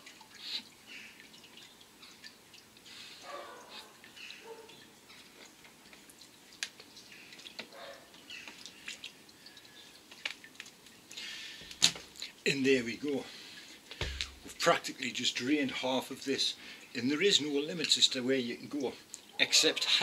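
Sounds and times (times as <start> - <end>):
water dripping and gurgling in tube: 0.0 - 20.0.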